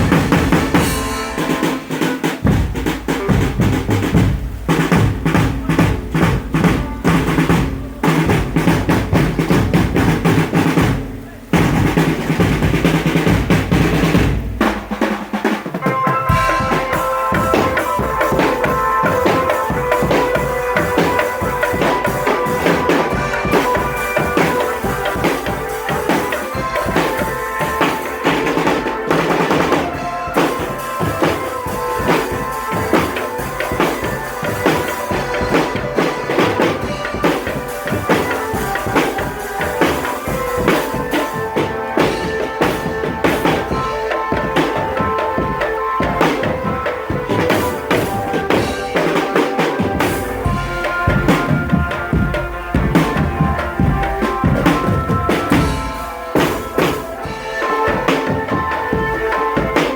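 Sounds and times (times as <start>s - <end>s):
melody of held notes: 0.0s - 59.9s
snare and bass drums beating: 0.0s - 59.9s.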